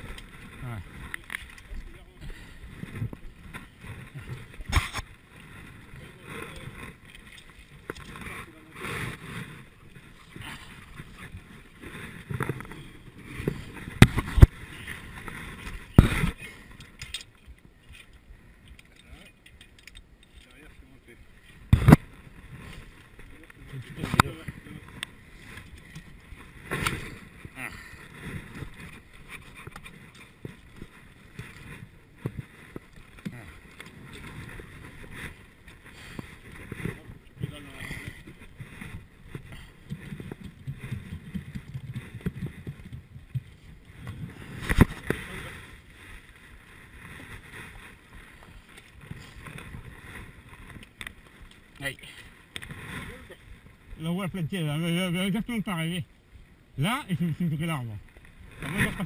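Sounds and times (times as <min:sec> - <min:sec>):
clothing rustling against bike: 0:00.0 - 0:54.0.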